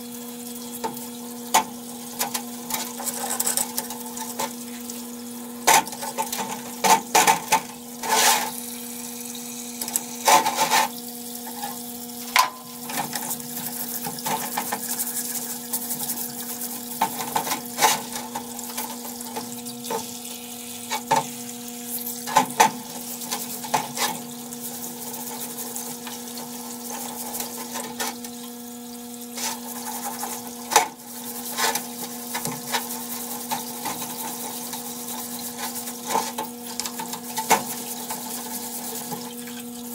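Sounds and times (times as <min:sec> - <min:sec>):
pump humming: 0:00.0 - 0:39.9.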